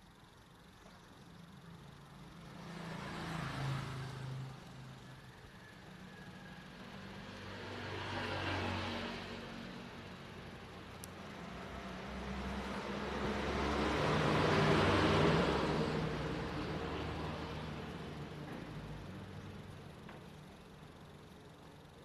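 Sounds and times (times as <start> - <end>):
motor vehicles passing by: 0.8 - 22.0.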